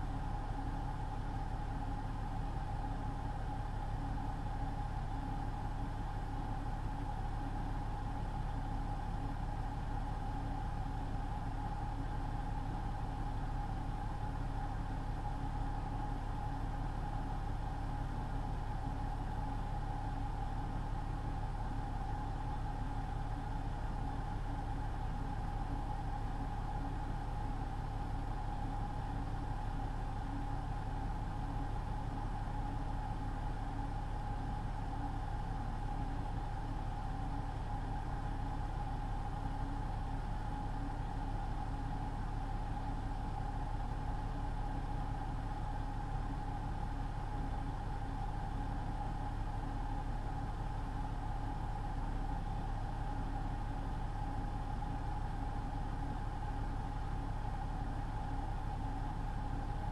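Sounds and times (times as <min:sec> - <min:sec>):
constant mid-pitched hum: 0:00.0 - 0:59.9
truck engine and road rumble: 0:00.0 - 0:59.9.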